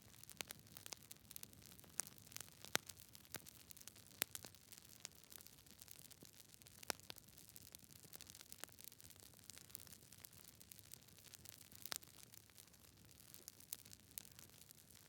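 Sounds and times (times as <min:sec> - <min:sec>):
campfire crackling: 0:00.1 - 0:15.0.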